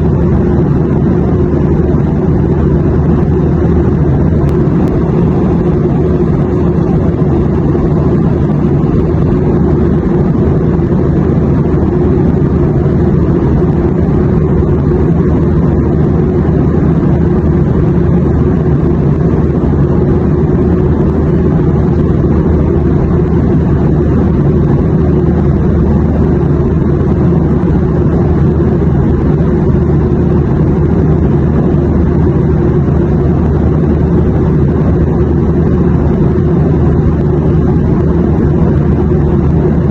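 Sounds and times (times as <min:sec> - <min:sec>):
jet cabin rumble: 0:00.0 - 0:39.9.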